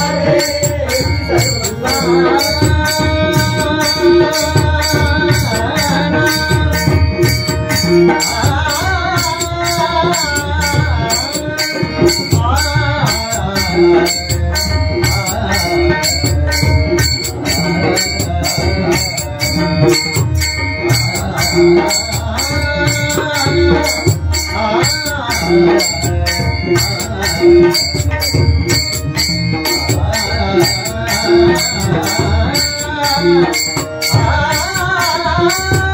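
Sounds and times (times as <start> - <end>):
hand drums playing: 0.0 - 35.9.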